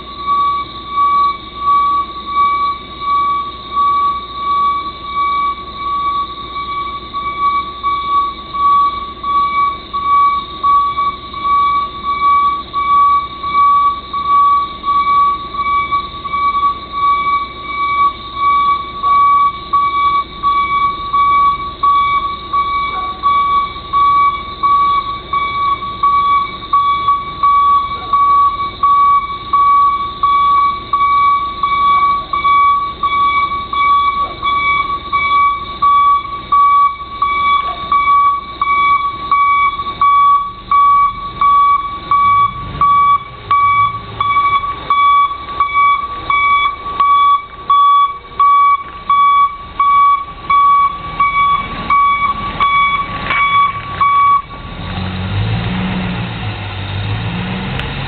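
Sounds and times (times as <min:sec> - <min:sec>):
truck engine: 0:00.0 - 0:58.0
truck reversing alarm beeping: 0:00.0 - 0:58.0.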